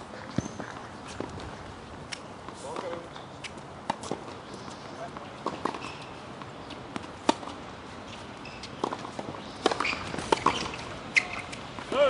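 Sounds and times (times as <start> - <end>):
tennis ball bounces and hits: 2.1 - 12.0.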